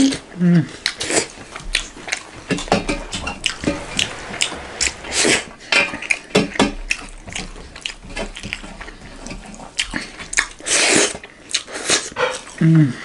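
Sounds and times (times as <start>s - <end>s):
wet chewing mouth sounds: 0.0s - 13.0s.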